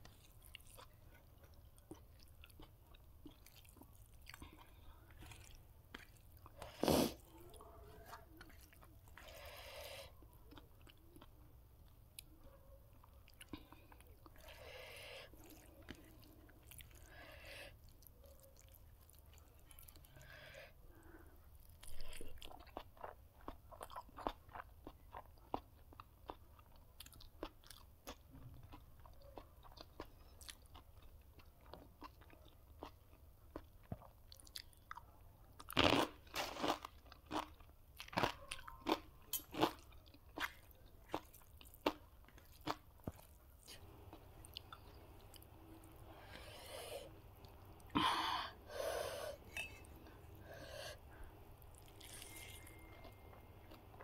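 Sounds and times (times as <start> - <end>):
chewing and crunching food: 0.0 - 48.5, 49.4 - 54.0.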